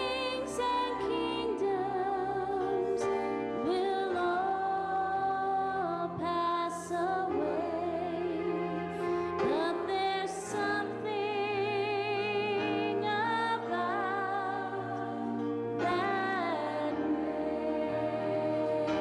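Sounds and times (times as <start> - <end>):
electric keyboard chords: 0.0 - 19.0
woman singing: 0.0 - 19.0.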